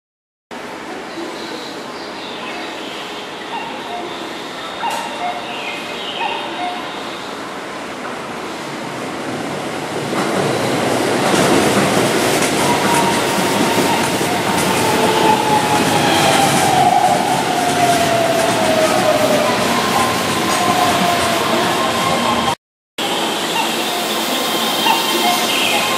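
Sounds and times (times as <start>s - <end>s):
electric train running past: 0.6s - 25.9s.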